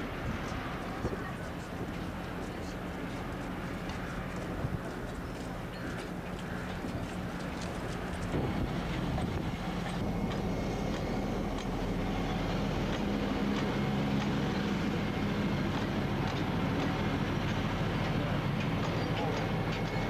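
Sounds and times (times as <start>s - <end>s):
diesel locomotive engine droning: 0.0s - 20.0s
wheels clicking on rails: 0.7s - 20.0s.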